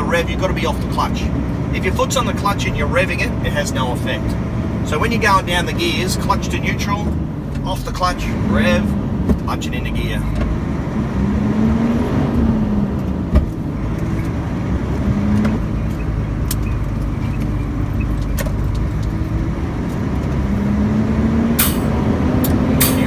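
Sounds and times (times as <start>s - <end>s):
truck diesel engine revving: 0.0s - 23.0s.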